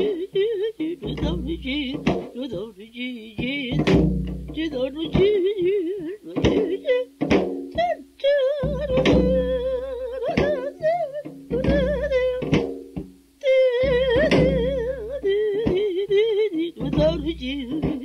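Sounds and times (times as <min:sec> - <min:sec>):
person singing with wide vibrato: 0:00.0 - 0:18.0
plucked string instrument: 0:00.0 - 0:18.0.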